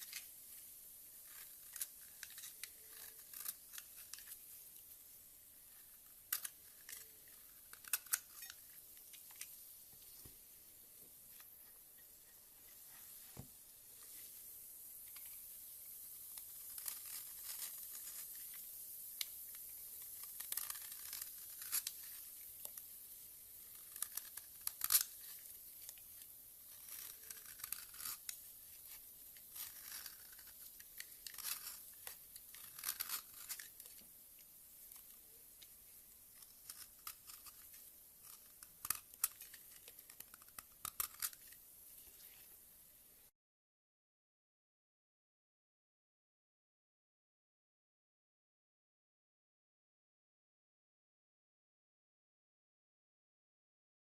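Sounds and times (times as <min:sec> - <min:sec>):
faint hiss: 0:00.0 - 0:43.3.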